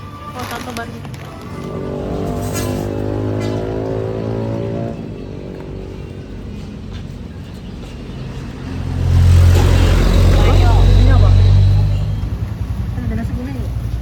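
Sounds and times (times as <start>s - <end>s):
vehicle engine running: 0.3s - 14.0s.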